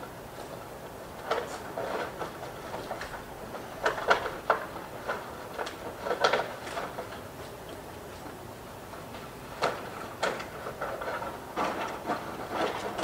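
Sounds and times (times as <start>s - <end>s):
city background noise: 0.0s - 13.0s.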